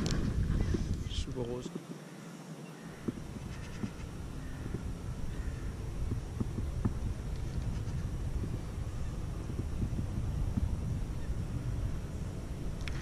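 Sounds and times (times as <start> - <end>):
wind rumbling on microphone: 0.0 - 2.1, 2.8 - 13.0
distant animal calls: 1.8 - 12.6.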